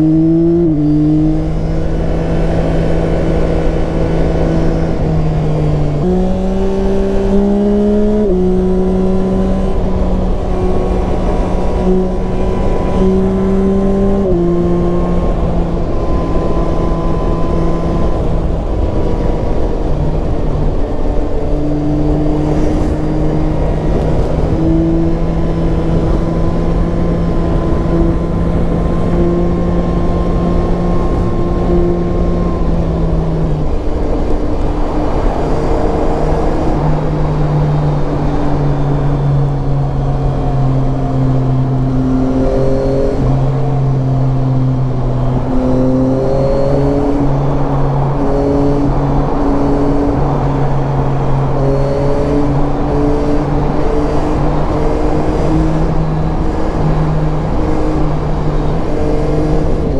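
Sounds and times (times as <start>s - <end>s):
wind noise: 0.0s - 59.9s.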